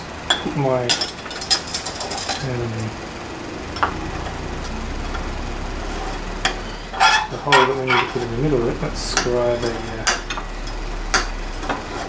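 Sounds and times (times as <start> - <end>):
low steady hum: 0.9 - 12.0.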